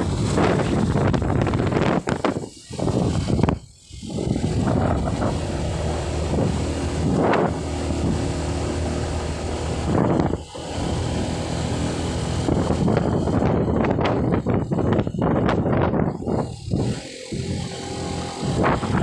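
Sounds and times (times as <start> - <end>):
vehicle engine running: 0.0 - 19.0
wind buffeting microphone: 0.0 - 19.0.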